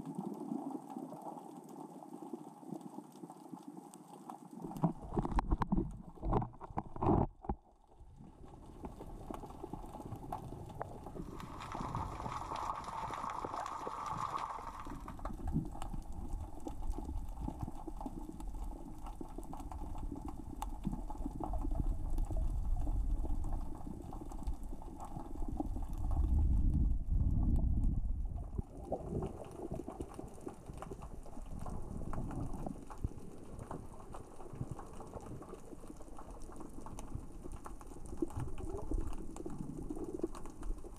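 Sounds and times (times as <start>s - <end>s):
rocks clicking underwater: 0.0s - 40.9s
low underwater rumble: 4.8s - 40.9s.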